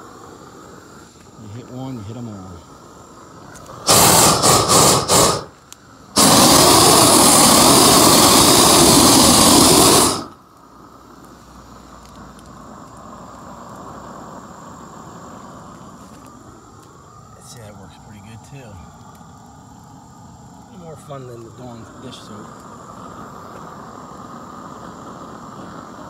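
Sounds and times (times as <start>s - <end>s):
propane torch roaring: 0.0s - 26.0s.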